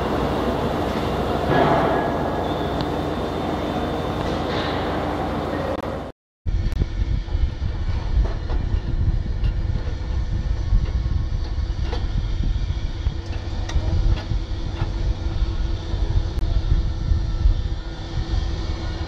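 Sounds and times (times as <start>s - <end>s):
diesel engine rumbling: 0.0s - 18.7s.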